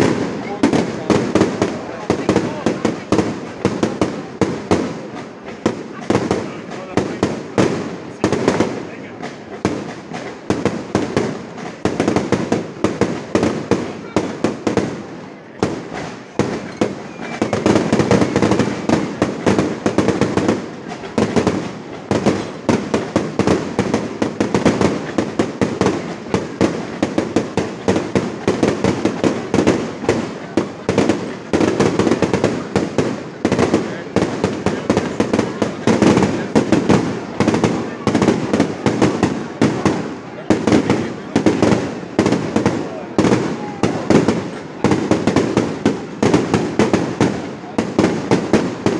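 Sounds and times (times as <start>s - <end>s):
fireworks bangs and crackle: 0.0s - 48.9s.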